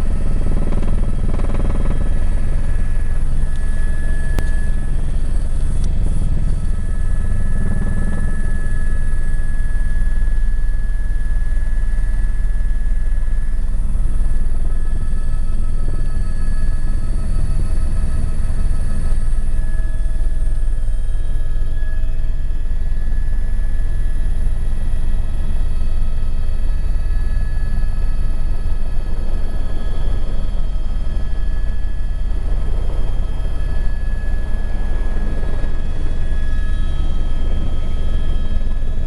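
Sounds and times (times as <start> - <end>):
helicopter rotor beat: 0.0 - 39.0
thin steady whine: 0.0 - 39.0.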